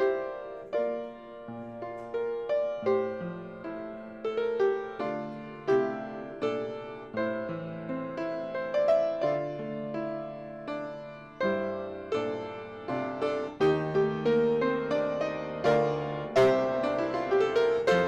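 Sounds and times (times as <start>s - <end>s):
slow solo piano chords: 0.0s - 18.0s.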